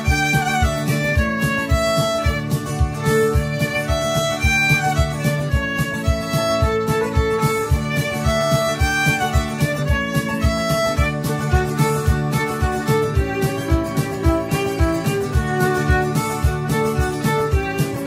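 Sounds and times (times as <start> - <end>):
fiddle playing dance tune: 0.0 - 18.0
low steady beat: 0.0 - 18.0.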